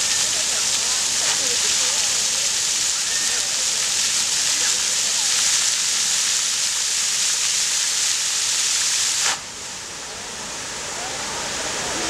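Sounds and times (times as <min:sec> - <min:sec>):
fountain jets splashing on stone: 0:00.0 - 0:12.0.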